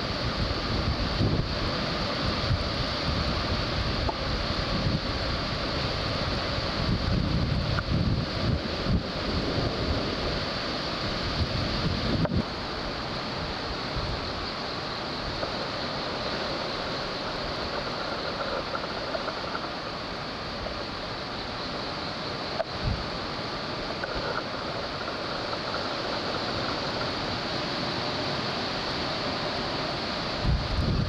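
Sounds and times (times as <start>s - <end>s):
wind on microphone: 0.0s - 21.6s, 22.4s - 31.0s
surf rushing on rocks: 0.0s - 31.0s.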